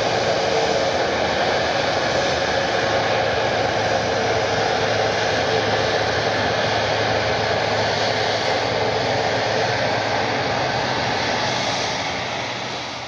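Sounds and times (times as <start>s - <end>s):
airliner engines roaring: 0.0s - 13.0s.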